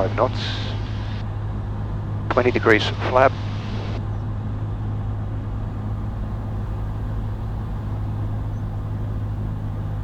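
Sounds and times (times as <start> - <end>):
airplane engine droning: 0.0 - 10.0.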